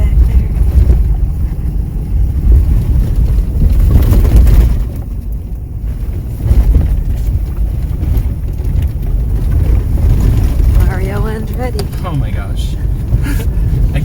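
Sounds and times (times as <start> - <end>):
vehicle rumbling on rough road: 0.0 - 14.0.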